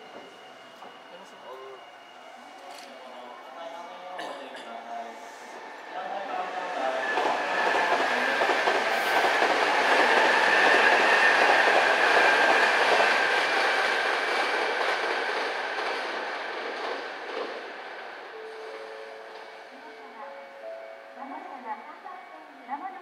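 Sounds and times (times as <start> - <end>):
electric train passing: 0.0 - 4.2, 4.8 - 23.0.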